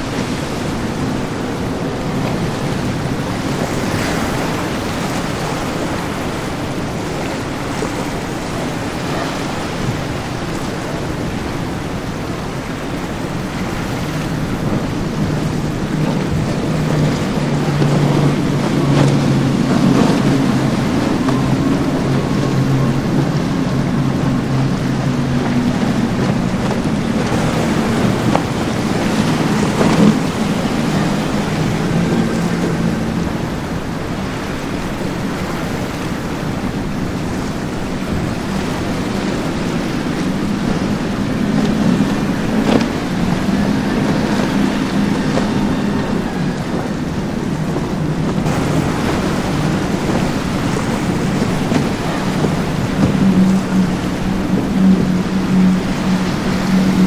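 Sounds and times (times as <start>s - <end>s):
outboard engines droning: 0.0s - 57.0s
spray and churning wake water: 0.0s - 57.0s.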